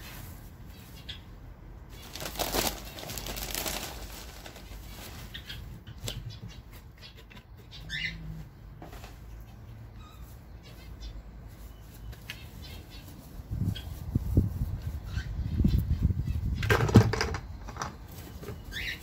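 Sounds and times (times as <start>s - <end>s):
rustling and shuffling: 0.0s - 19.0s.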